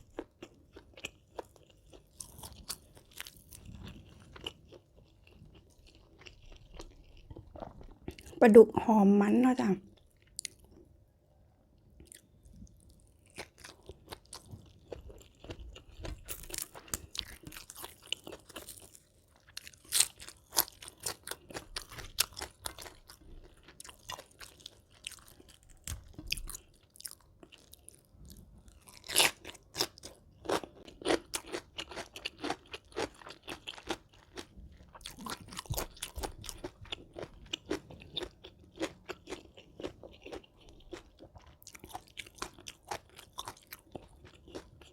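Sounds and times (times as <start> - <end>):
chewing and crunching food: 0.0 - 8.9, 9.5 - 11.0, 11.8 - 44.9.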